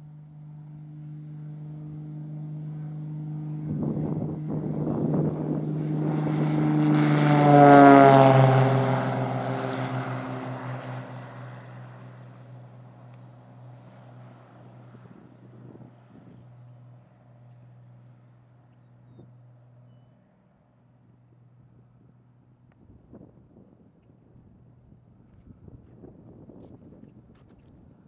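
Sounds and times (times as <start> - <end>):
propeller plane engine passing: 0.0 - 28.0.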